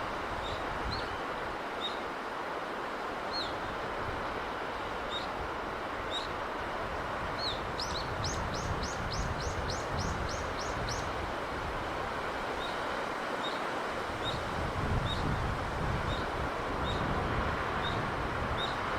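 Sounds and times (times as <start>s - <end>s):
sea breeze rushing: 0.0s - 18.9s.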